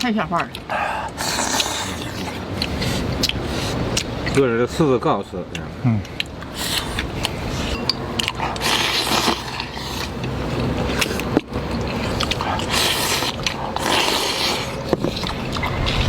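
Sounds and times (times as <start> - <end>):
chewing: 0.0 - 4.5, 5.5 - 15.9.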